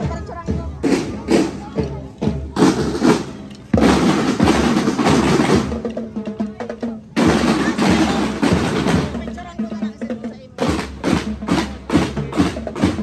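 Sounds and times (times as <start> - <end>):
snare and bass drums beating: 0.0 - 13.0.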